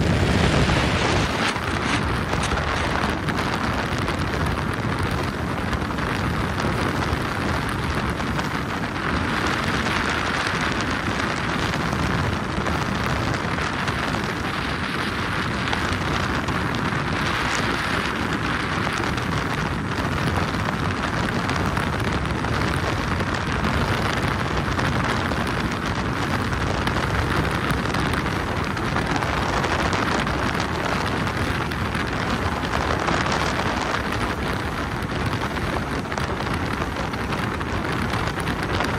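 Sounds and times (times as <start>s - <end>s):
water rushing past hull: 0.0s - 38.8s
wind buffeting microphone: 0.0s - 38.9s.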